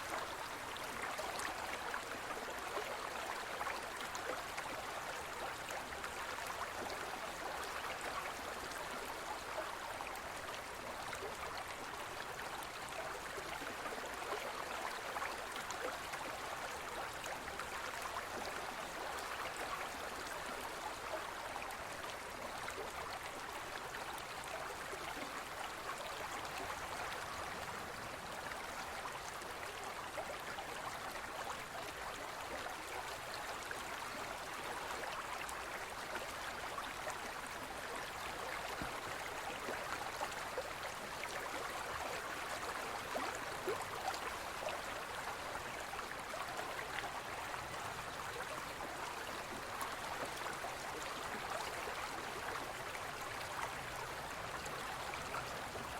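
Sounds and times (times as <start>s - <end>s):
stream gurgling over rocks: 0.0s - 55.9s.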